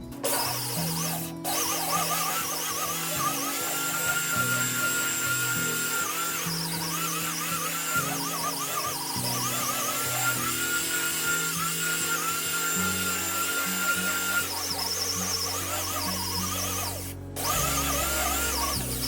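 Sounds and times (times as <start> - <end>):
belt sander on wood: 0.0 - 19.0.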